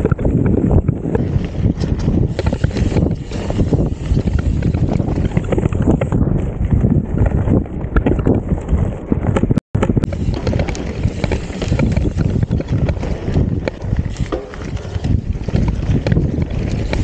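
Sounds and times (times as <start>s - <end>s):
mountain bike clattering: 0.0s - 17.0s
tyre noise: 0.0s - 17.0s
wind buffeting microphone: 0.0s - 17.0s.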